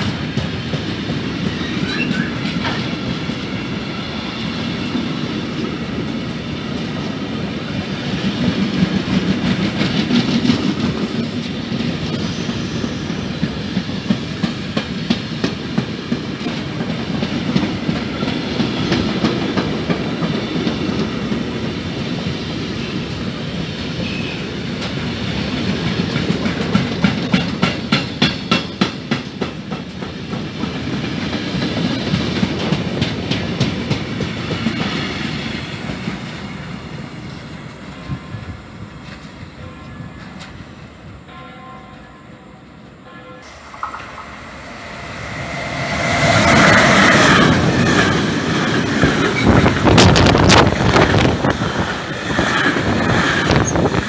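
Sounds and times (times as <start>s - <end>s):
train wheels clattering: 0.0s - 7.2s, 8.0s - 22.0s, 24.0s - 38.2s, 43.4s - 54.0s
freight train rolling rumble: 0.0s - 42.1s, 42.7s - 54.0s.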